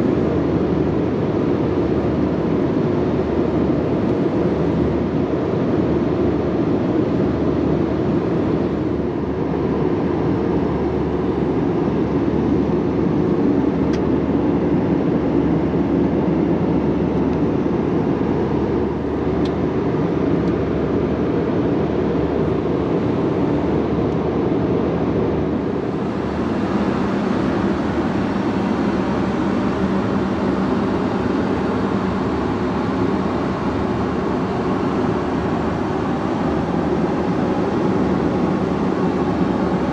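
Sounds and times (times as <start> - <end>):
airplane cabin noise: 0.0 - 39.9
steady low hum: 0.0 - 39.9.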